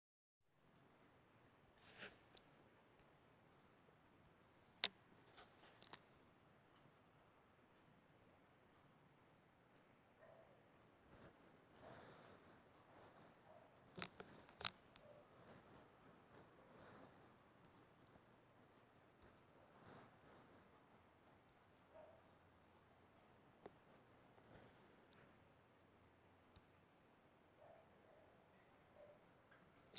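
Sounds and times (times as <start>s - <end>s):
insect chirping: 0.6s - 29.9s.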